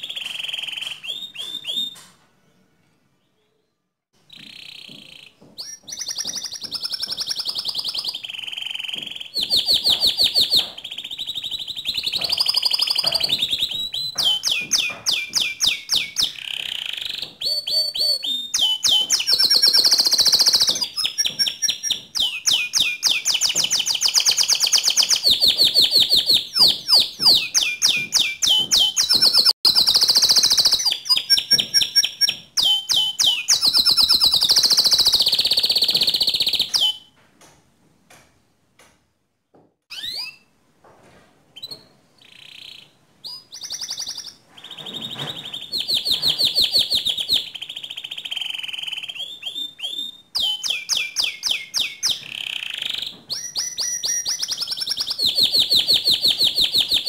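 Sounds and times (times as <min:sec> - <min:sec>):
canary singing trills: 0:00.0 - 0:02.2, 0:04.2 - 0:37.1, 0:39.9 - 0:40.5, 0:41.6 - 0:57.0.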